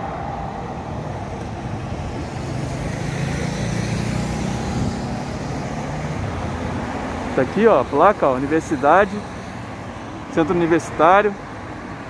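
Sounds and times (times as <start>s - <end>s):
passing cars rushing: 0.0s - 12.0s
vehicle engine hum: 0.0s - 12.0s.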